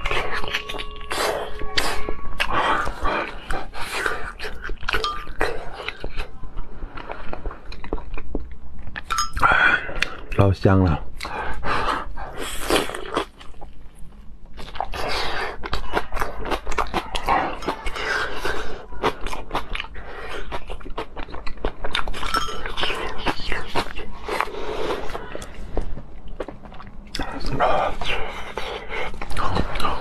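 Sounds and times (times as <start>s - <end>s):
crunching and chewing food: 0.0s - 10.4s, 11.1s - 30.0s.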